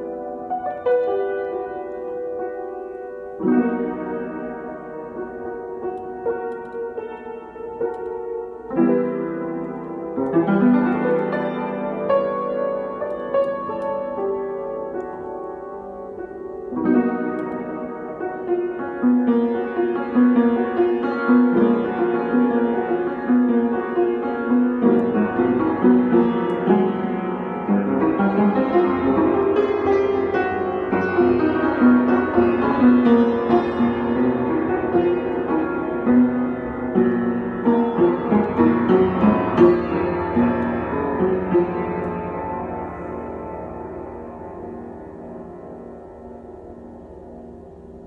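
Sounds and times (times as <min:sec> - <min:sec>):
solo piano: 0:00.0 - 0:48.0.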